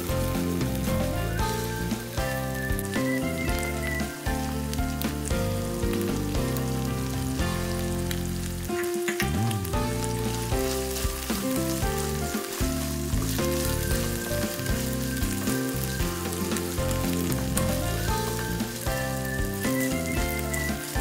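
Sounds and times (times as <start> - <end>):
background music: 0.0 - 21.0
food sizzling in a pan: 0.0 - 21.0.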